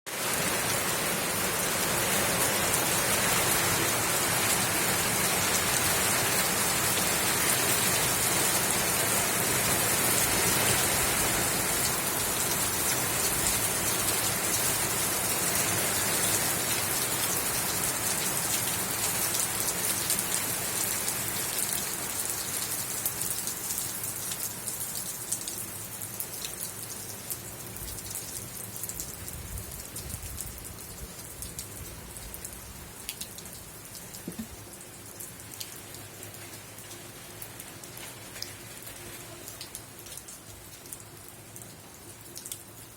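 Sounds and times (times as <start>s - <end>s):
steady rain falling: 0.1s - 42.9s.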